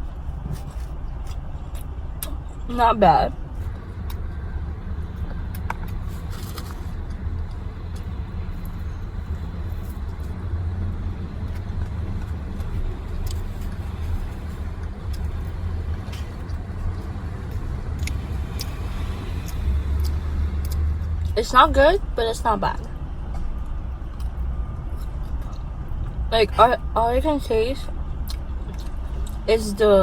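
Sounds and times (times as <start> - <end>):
car engine idling: 2.3 - 27.7.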